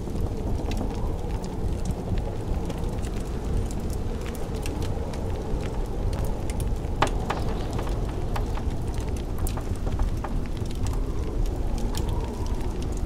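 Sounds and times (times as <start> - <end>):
blizzard wind rushing: 0.0 - 13.0
wood fire crackling and popping: 0.0 - 13.0.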